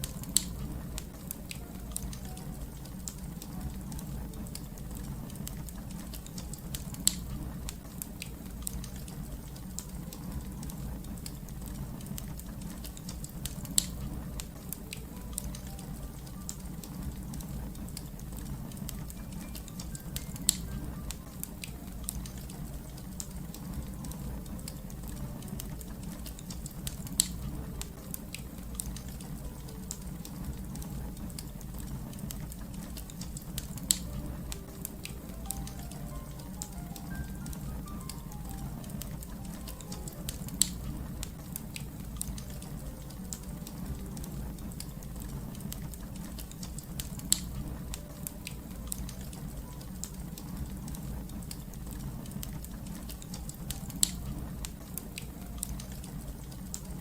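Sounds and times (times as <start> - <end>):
low rumble of flame: 0.0 - 57.0
wood fire crackling: 0.0 - 57.0.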